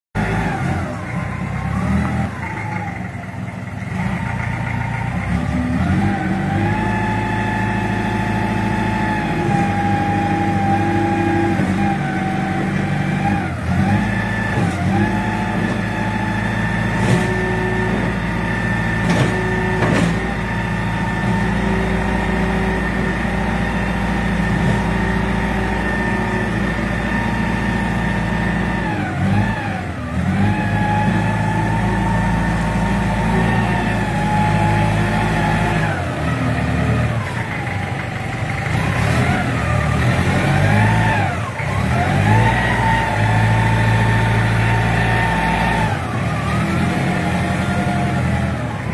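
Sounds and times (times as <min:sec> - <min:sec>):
diesel engine under throttle: 0:00.2 - 0:48.9.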